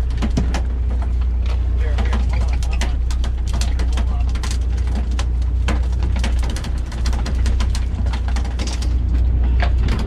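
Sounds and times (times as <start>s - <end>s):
boat low rumble: 0.0s - 10.0s
sharp clicks and knocks: 0.0s - 10.0s.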